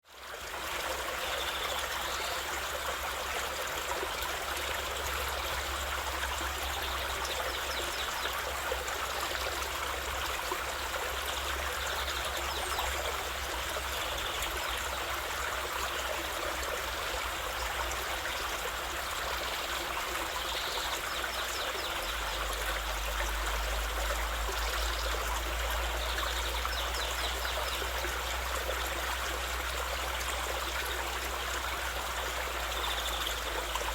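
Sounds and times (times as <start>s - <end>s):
running water flowing: 0.0s - 33.9s.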